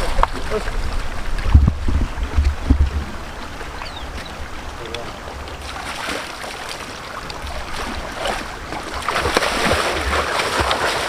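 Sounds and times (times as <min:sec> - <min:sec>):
water splashing and lapping: 0:00.0 - 0:11.0
wind rumbling on microphone: 0:00.0 - 0:11.0.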